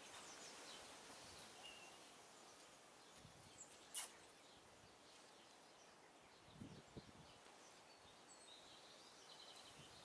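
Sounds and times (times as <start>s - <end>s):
distant bird chirps: 0.0s - 10.0s.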